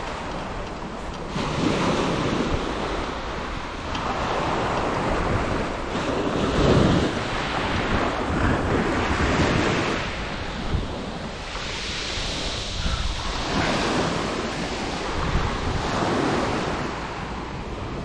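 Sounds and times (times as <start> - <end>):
waves washing up a shingle beach: 0.0 - 18.0
wind on microphone: 0.0 - 18.0.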